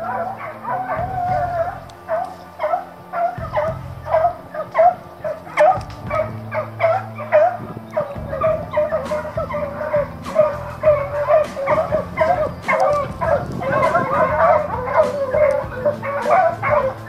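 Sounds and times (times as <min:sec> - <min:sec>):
hounds yelping: 0:00.0 - 0:17.0.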